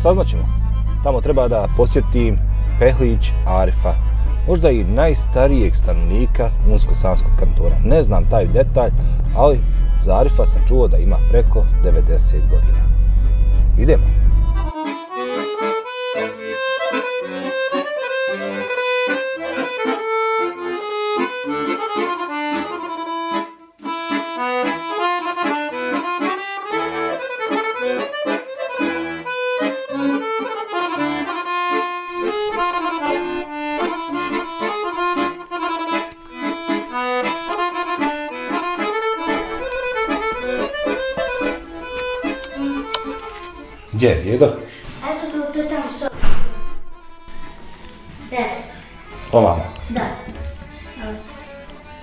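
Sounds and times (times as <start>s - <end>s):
accordion music: 0.0s - 52.0s.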